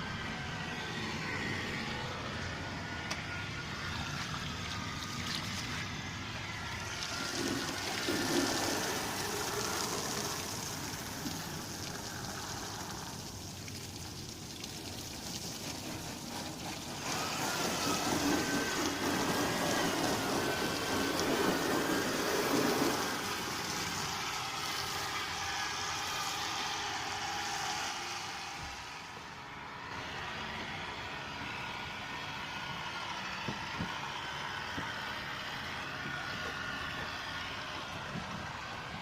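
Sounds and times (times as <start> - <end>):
water spraying on a car: 0.0 - 39.0.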